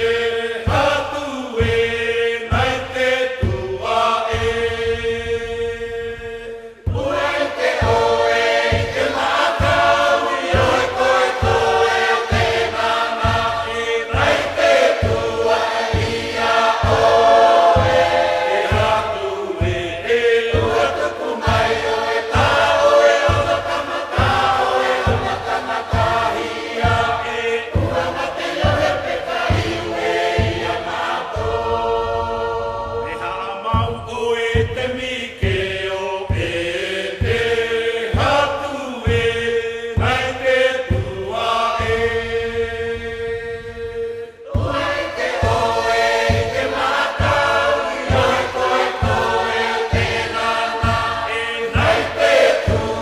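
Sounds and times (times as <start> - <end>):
choir singing in harmony: 0.0 - 53.0
low drum beat: 0.0 - 53.0.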